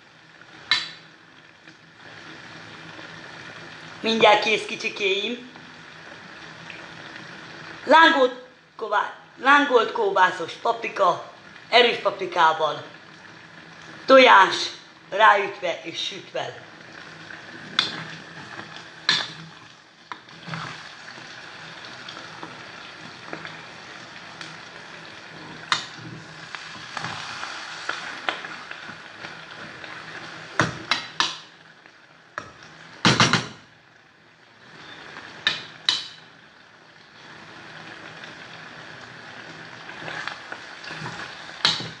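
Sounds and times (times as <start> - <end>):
sausage and peppers sizzling: 0.0 - 42.0.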